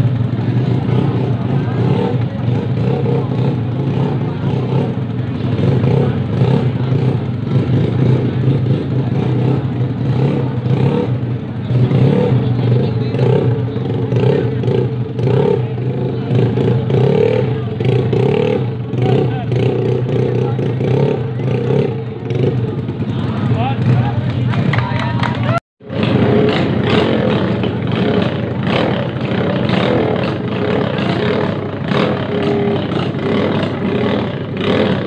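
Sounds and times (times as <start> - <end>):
scooter engines revving: 0.0 - 35.0.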